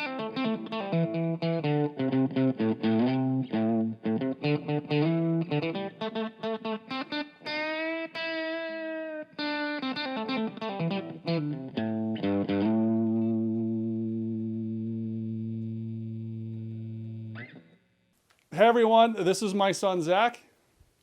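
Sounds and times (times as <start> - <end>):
guitar picking: 0.0 - 17.8.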